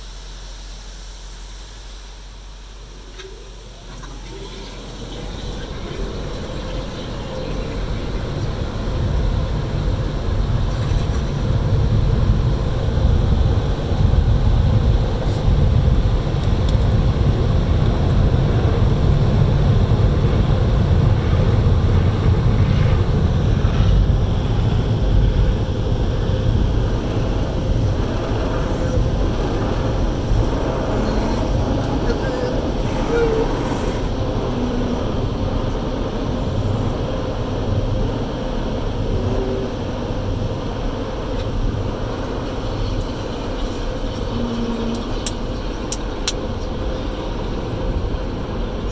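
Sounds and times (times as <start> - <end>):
car wash rush and rumble: 0.0 - 48.9.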